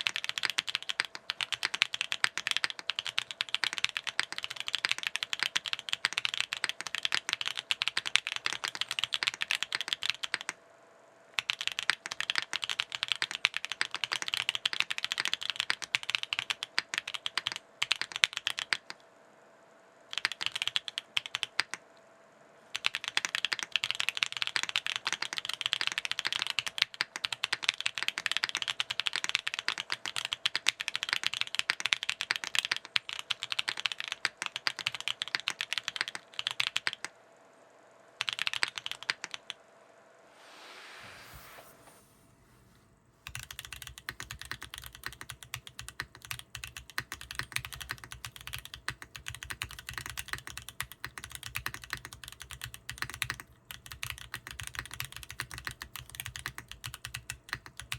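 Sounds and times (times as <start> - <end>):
fast typing on mechanical keyboard: 0.0 - 10.6, 11.4 - 19.0, 20.1 - 21.8, 22.7 - 37.1, 38.2 - 39.6, 43.2 - 57.9.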